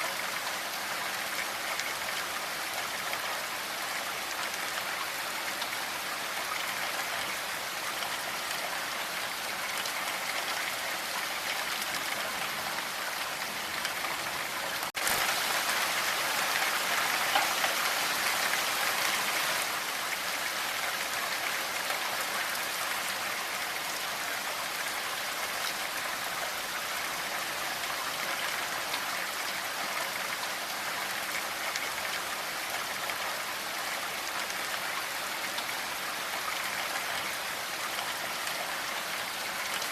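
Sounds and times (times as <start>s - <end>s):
steady dense rainfall: 0.0s - 39.9s.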